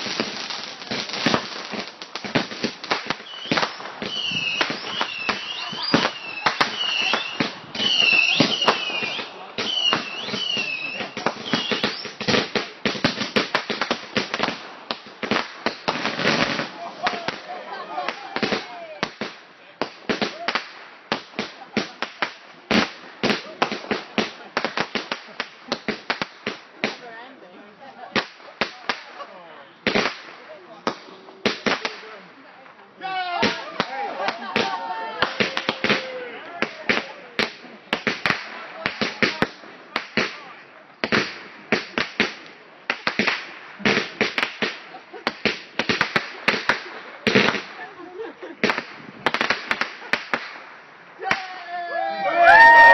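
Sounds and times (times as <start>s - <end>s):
fireworks bangs: 0.0s - 27.1s, 28.0s - 51.6s.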